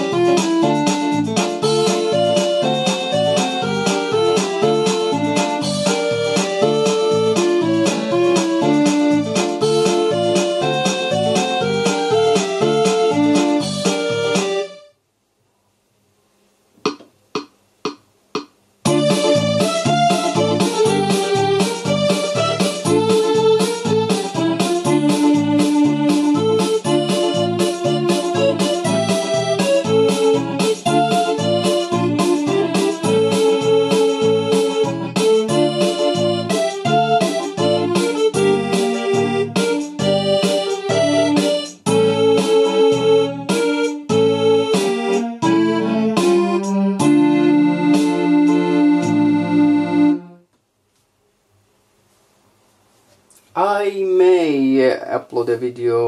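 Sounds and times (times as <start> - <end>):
electronic keyboard playing a tune: 0.0 - 15.0, 18.4 - 50.5.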